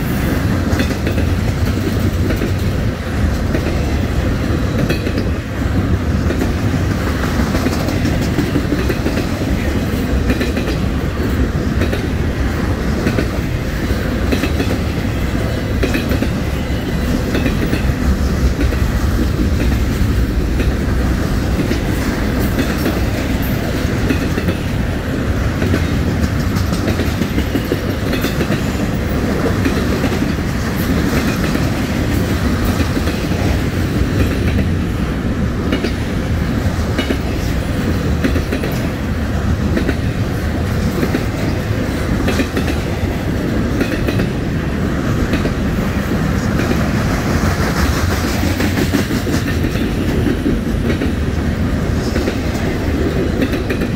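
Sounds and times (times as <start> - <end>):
freight train wheels rumbling: 0.0 - 53.9
wheels clicking over rail joints: 0.5 - 53.9.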